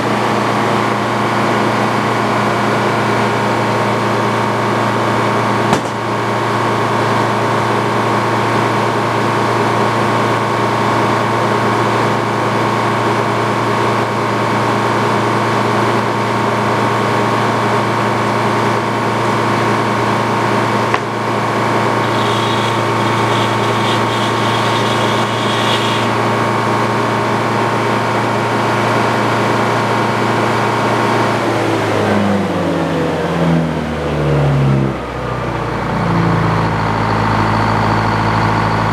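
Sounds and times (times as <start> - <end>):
sawmill mechanical drone: 0.0 - 38.9.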